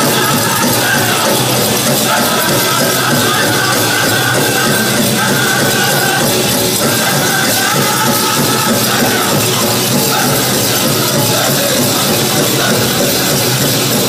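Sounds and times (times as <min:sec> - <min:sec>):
group singing in high voices: 0:00.0 - 0:14.0
large drum steady beat: 0:00.0 - 0:14.0.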